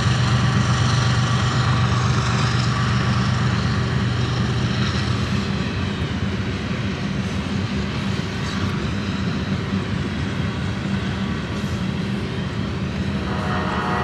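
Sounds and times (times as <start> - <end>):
freight train cars rolling: 0.0 - 14.0
low engine hum: 0.0 - 14.0
propeller airplane droning: 0.0 - 14.0.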